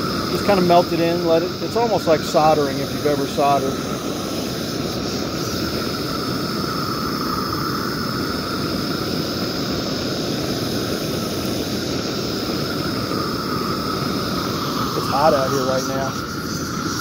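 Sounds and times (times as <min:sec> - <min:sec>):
faint torch whistle: 0:00.0 - 0:17.0
propane torch hissing: 0:00.0 - 0:17.0.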